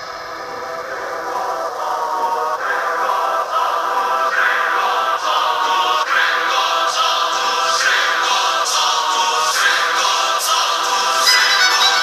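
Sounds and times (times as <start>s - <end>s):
choral music through small speakers: 0.0s - 12.0s.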